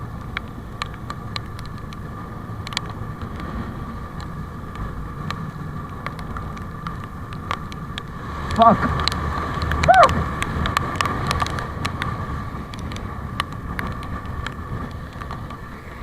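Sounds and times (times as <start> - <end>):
engine whining and rumbling: 0.0 - 16.0.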